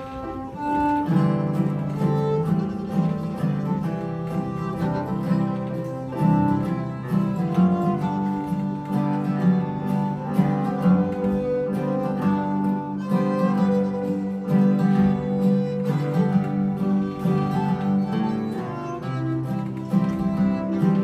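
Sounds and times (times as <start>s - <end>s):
acoustic guitar: 0.0s - 21.0s
fiddle melody: 0.0s - 21.0s.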